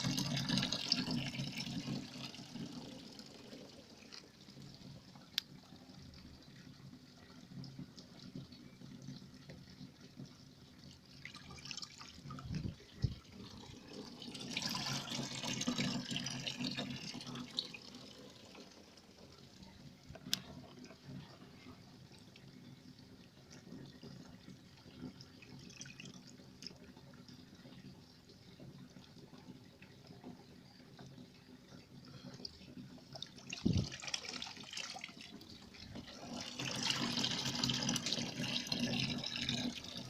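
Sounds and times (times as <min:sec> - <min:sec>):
water splashing and trickling: 0:00.0 - 0:40.0.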